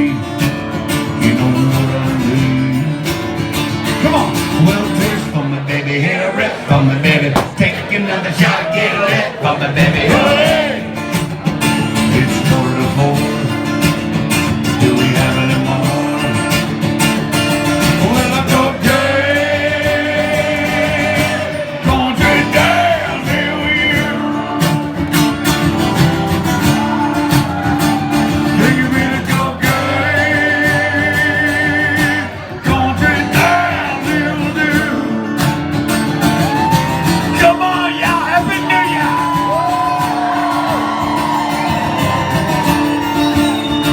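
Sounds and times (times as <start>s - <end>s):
live country band playing: 0.0s - 43.9s.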